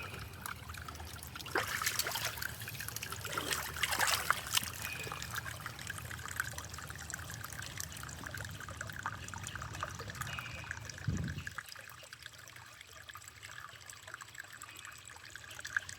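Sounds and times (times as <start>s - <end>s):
stream trickling: 0.0s - 15.9s.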